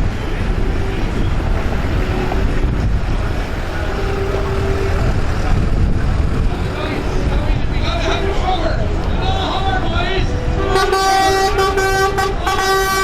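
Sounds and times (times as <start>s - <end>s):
tractor engines running: 0.0s - 13.0s
wind buffeting microphone: 0.0s - 13.0s.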